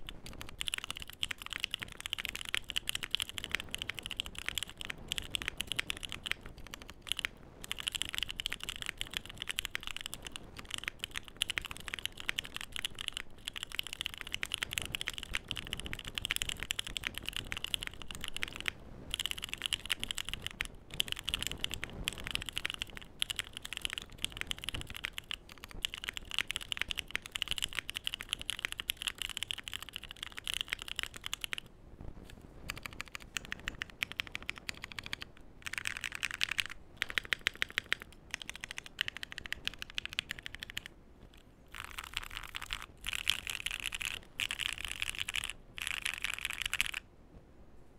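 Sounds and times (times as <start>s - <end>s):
mechanical keyboard key clacks: 0.0s - 31.6s, 32.7s - 40.9s.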